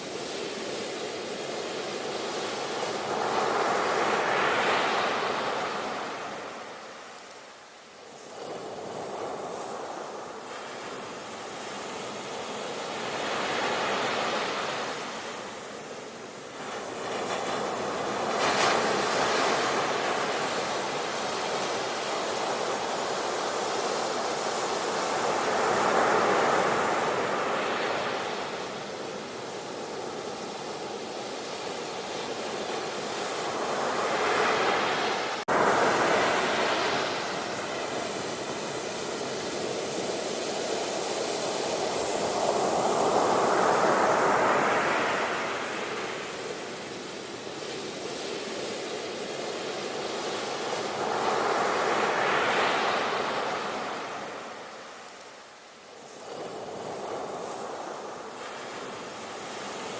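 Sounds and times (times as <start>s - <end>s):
sea waves breaking ashore: 0.0s - 59.9s.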